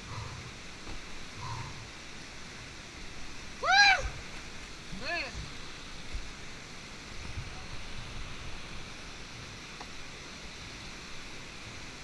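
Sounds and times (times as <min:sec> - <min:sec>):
churning whitewater rushing: 0:00.0 - 0:12.0.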